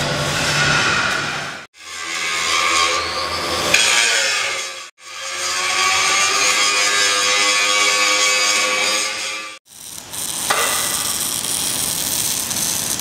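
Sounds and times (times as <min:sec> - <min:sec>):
grinder grinding steel: 0:01.8 - 0:13.0.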